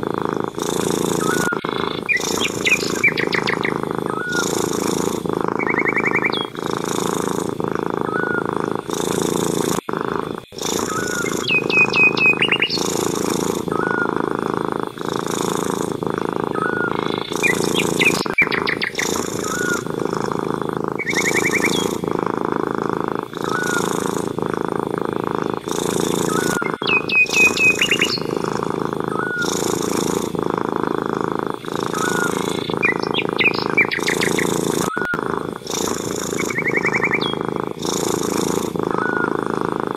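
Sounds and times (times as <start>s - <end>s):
cat purring: 0.0s - 39.9s
bird chirping: 0.5s - 7.3s, 8.0s - 9.2s, 10.5s - 14.2s, 15.0s - 22.2s, 23.3s - 24.1s, 25.4s - 30.2s, 31.6s - 39.3s.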